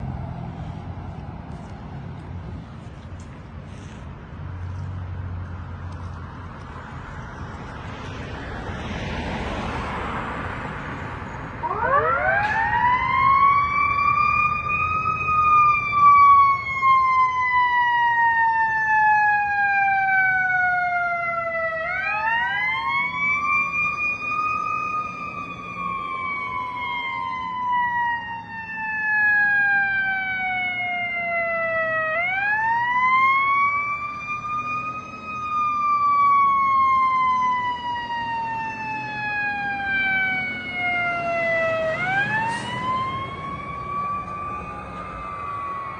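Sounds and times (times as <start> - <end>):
rushing vehicle noise: 0.0 - 45.9
fire engine siren wailing: 7.4 - 45.9.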